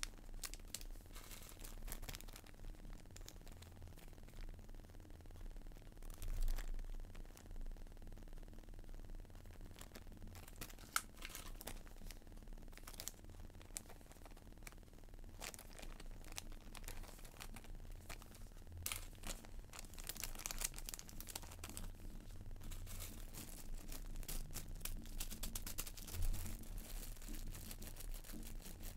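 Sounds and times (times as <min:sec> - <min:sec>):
plastic bags crinkling: 0:00.0 - 0:04.4, 0:06.1 - 0:06.8, 0:09.8 - 0:14.7, 0:15.3 - 0:28.9.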